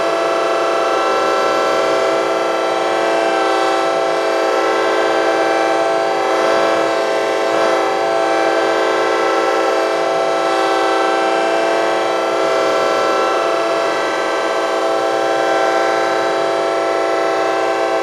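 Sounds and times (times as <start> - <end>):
buzzy vocoder chord: 0.0 - 18.0.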